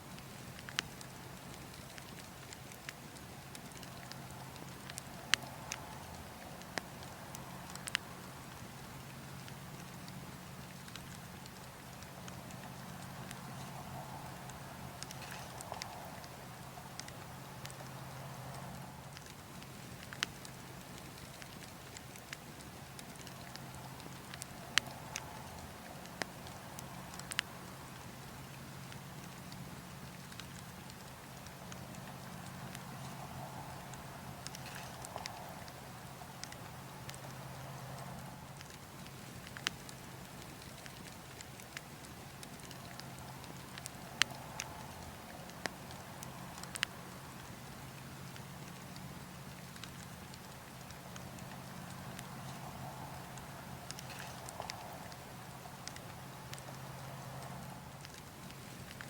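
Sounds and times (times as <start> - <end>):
burning logs crackling: 0.0 - 59.0
low rumble of wind: 0.0 - 59.0.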